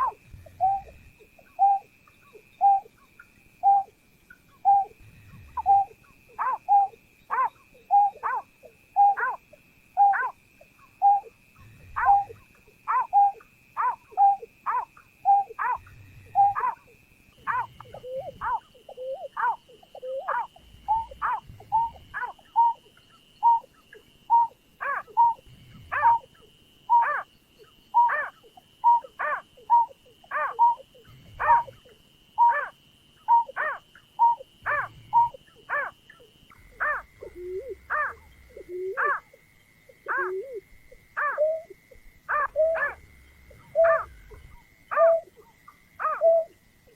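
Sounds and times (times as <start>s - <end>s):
snipe calling: 0.0s - 46.9s.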